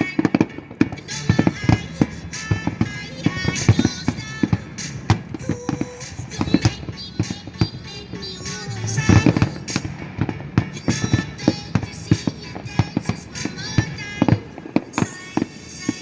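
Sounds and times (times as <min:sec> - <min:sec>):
fireworks bangs: 0:00.0 - 0:16.0
music playing: 0:00.0 - 0:16.0.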